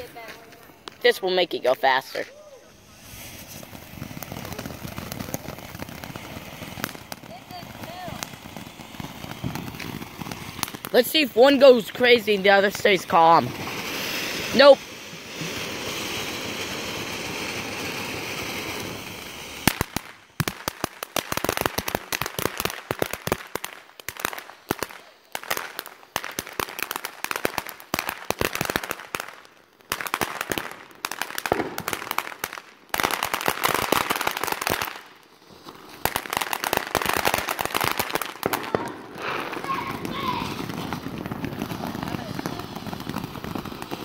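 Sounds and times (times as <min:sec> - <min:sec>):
fireworks spraying hiss: 0:00.0 - 0:29.4, 0:30.0 - 0:44.0
fireworks crackling: 0:00.0 - 0:44.0.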